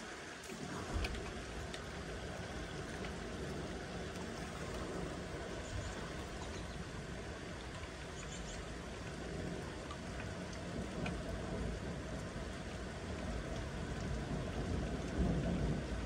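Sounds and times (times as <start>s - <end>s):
steady rain: 0.0s - 16.0s
low thunder rumble: 0.5s - 16.0s.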